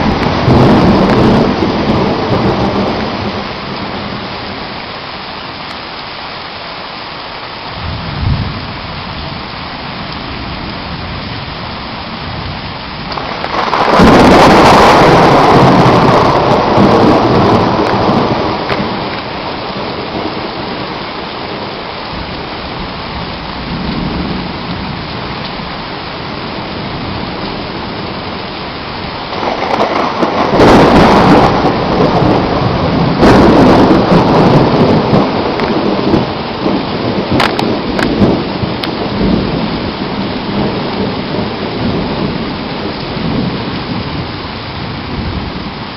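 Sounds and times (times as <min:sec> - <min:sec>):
thunder rumbling and cracking: 0:00.0 - 0:04.8, 0:07.7 - 0:45.9
heavy rain pouring: 0:00.0 - 0:45.9.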